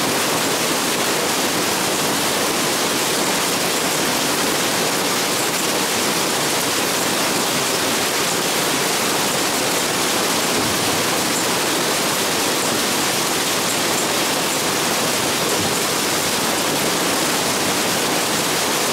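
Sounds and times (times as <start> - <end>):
heavy rain and hail splashing: 0.0 - 18.9.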